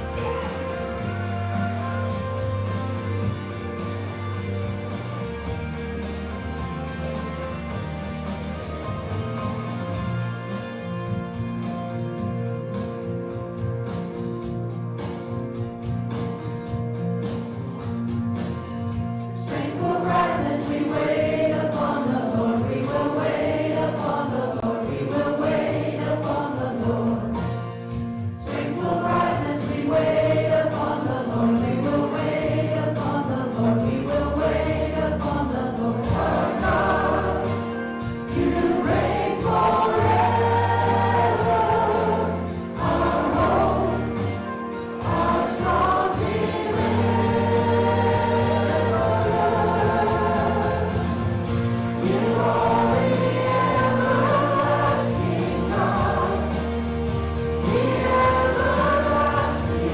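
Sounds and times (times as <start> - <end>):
voices singing together: 0.0 - 9.6, 19.4 - 59.9
band accompaniment with bass: 0.0 - 59.9.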